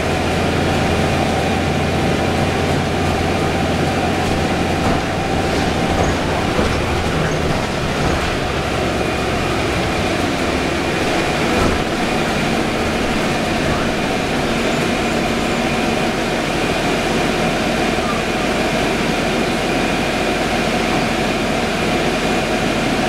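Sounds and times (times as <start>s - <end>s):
steady whine: 0.0s - 19.0s
bus drivetrain and tyres running: 0.0s - 23.0s.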